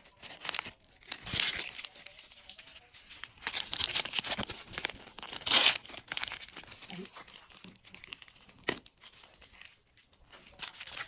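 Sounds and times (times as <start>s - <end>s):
plastic wrapper tearing and crumpling: 0.0s - 11.0s.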